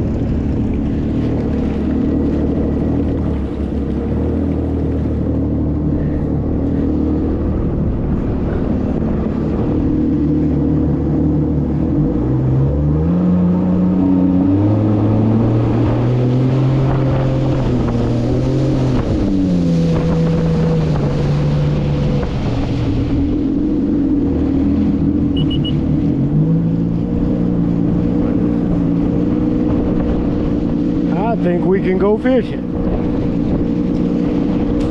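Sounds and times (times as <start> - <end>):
wind on microphone: 0.0 - 31.7, 32.5 - 34.9
boat motor running: 0.0 - 34.9.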